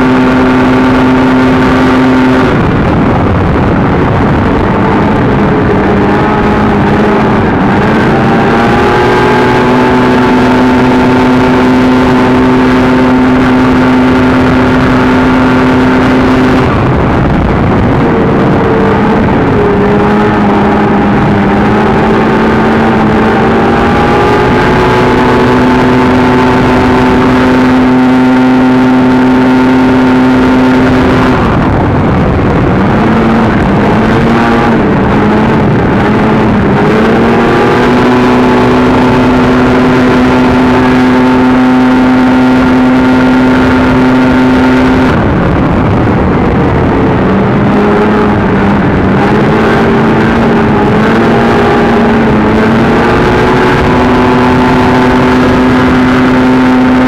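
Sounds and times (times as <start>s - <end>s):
snowmobile engine at full throttle: 0.0s - 57.0s.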